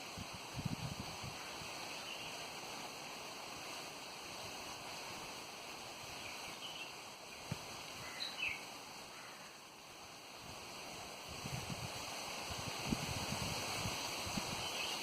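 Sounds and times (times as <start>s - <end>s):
wind noise: 0.0s - 9.3s, 10.0s - 15.0s.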